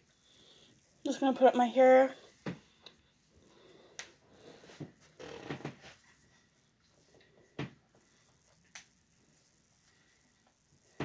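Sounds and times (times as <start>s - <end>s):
rustling of hair and clothing: 0.0s - 11.0s.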